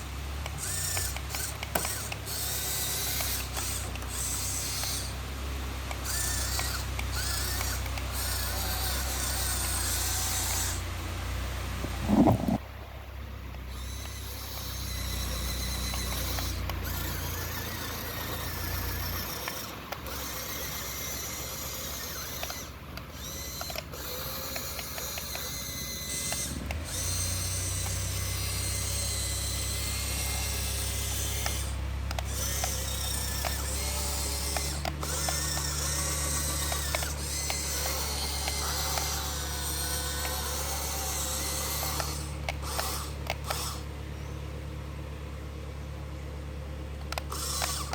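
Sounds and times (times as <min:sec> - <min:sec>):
combine harvester engine hum: 0:00.0 - 0:47.9
mechanical clatter and ticking: 0:00.4 - 0:05.1, 0:05.8 - 0:10.8, 0:13.5 - 0:43.8, 0:47.0 - 0:47.9.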